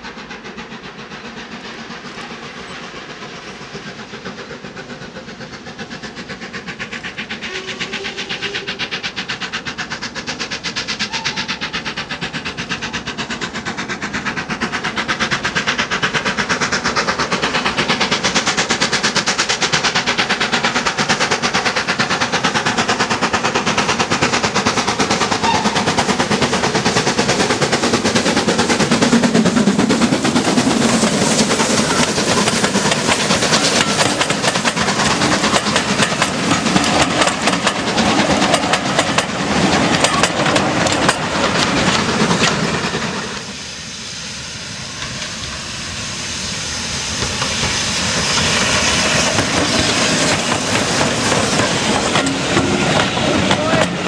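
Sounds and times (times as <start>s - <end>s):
steam locomotive exhaust beats: 0.0s - 54.0s
train running past: 0.0s - 54.0s.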